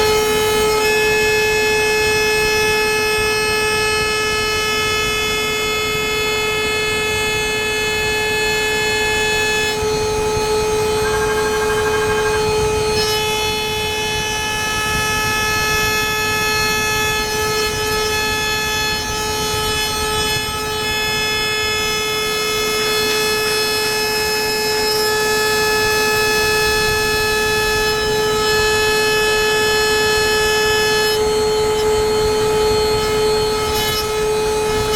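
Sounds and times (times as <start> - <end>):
milling machine spindle whine: 0.0 - 34.9.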